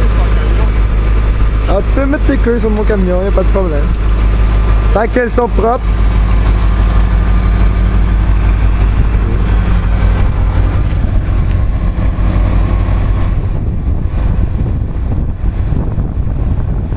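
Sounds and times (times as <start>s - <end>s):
pickup engine idling: 0.0s - 16.9s.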